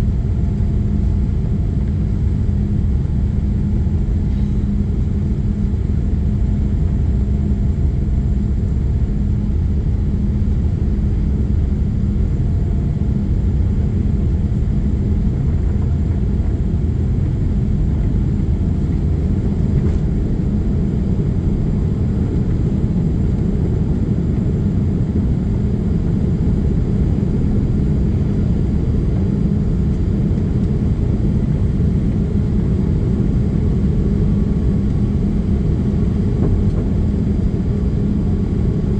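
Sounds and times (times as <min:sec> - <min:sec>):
constant low hum: 0:00.0 - 0:38.9
jet engine rumble in cabin: 0:00.0 - 0:38.9.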